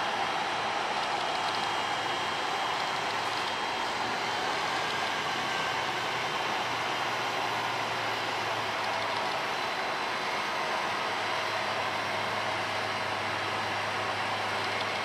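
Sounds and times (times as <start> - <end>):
diesel train engine hum: 0.0 - 15.0.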